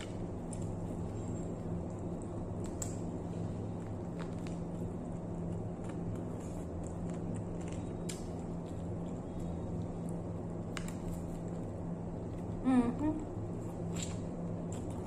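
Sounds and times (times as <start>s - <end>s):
biting and chewing chicken: 0.0s - 12.6s, 13.7s - 15.0s
steady low hum: 0.0s - 15.0s.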